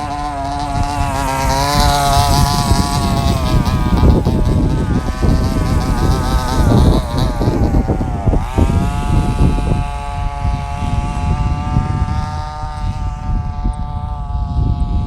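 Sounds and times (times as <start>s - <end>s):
low rumbling: 0.0s - 15.0s
rc truck motor whining: 0.0s - 15.0s.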